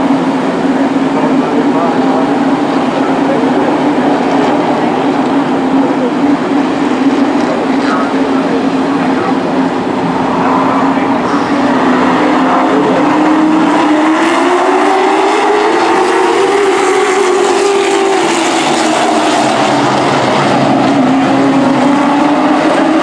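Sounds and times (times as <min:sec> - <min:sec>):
racing truck engines: 0:00.0 - 0:23.0.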